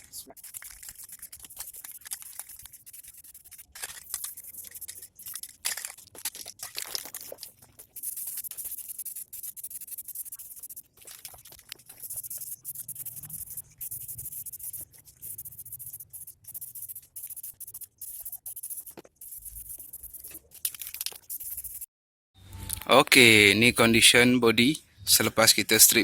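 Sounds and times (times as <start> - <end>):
scratchy rubbing on bare steel: 0.0 - 21.9.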